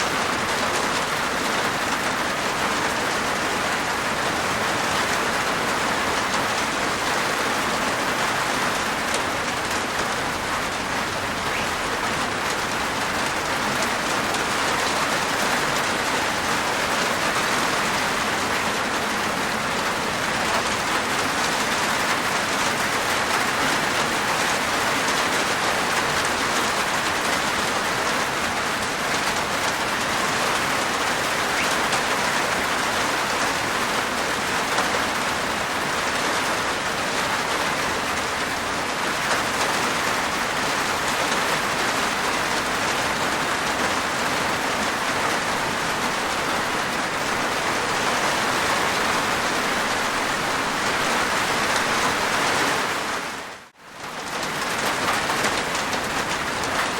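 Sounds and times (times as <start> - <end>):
rain on a rooftop: 0.0 - 56.9.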